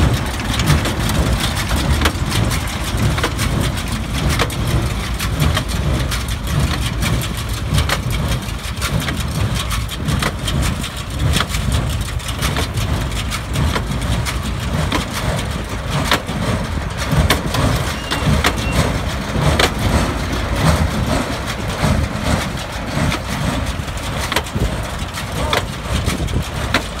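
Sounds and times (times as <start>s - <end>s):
diesel tractor engine drone: 0.0s - 27.0s.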